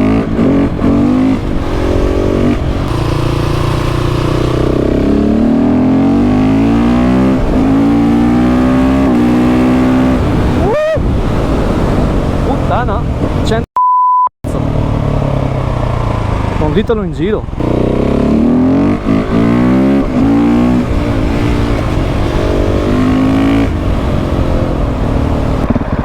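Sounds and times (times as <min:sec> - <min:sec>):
motorcycle engine accelerating hard: 0:00.0 - 0:13.4, 0:14.5 - 0:26.0.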